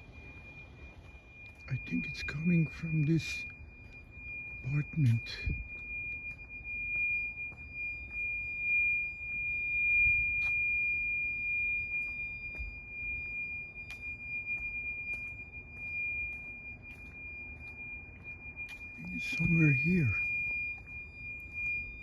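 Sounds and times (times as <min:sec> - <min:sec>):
smoke alarm high-pitched tone: 0:00.0 - 0:22.0.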